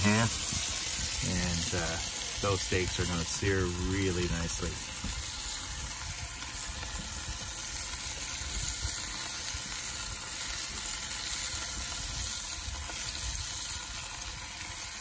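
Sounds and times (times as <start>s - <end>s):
low uneven rumble: 0.0s - 15.0s
steaks sizzling in a skillet: 0.0s - 15.0s.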